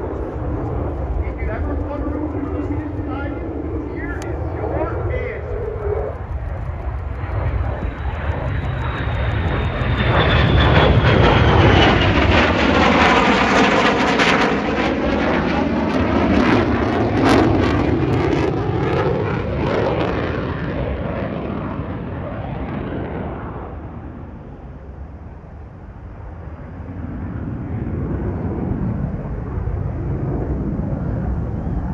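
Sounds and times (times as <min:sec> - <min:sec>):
high engine whine: 0:00.0 - 0:31.9
jet engine roar in fly-by: 0:00.0 - 0:31.9.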